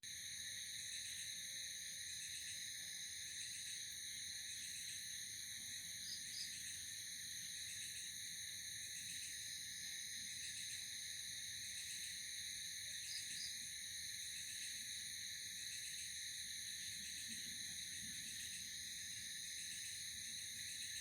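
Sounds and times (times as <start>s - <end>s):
insects trilling: 0.2s - 21.0s.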